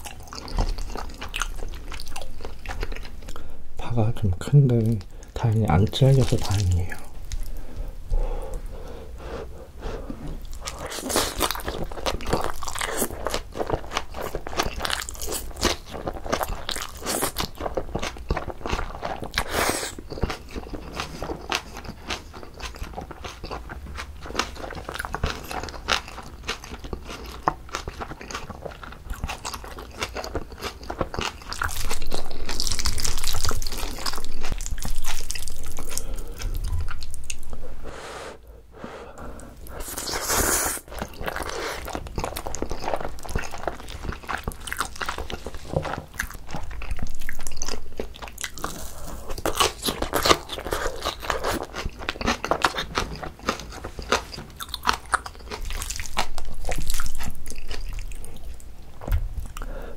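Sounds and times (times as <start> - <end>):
wet chewing and crunching: 0.0 - 3.4, 4.6 - 7.6, 10.4 - 37.6, 39.6 - 59.8.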